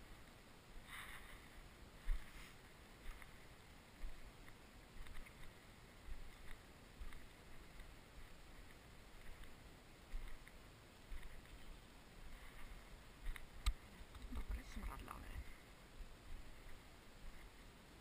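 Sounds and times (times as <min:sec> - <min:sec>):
dry stalks crackling underfoot: 0:00.0 - 0:18.0
footsteps on dry stubble: 0:01.0 - 0:17.6.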